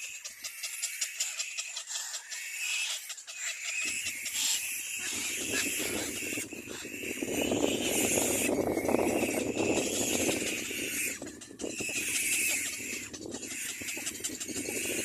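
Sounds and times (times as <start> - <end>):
bird chicks chattering: 0.0 - 15.0.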